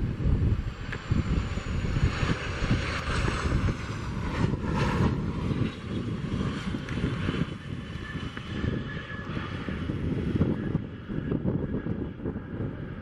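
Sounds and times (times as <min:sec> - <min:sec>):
jet engine whine: 0:00.0 - 0:13.0
wind buffeting microphone: 0:00.0 - 0:13.0.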